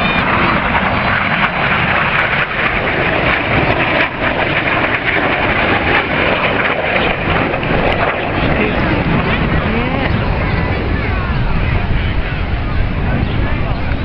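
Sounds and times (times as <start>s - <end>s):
jets flying over: 0.0s - 14.0s.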